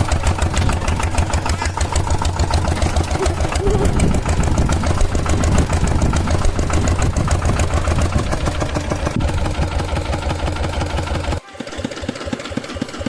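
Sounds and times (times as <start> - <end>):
engine putt-putting: 0.0 - 13.0.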